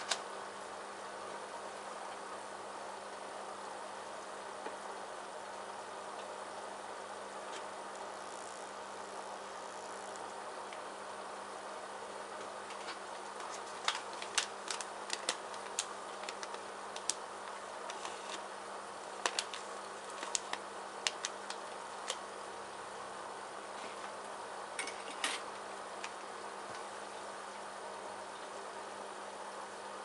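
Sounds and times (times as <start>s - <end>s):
low hum and hiss: 0.0s - 30.0s.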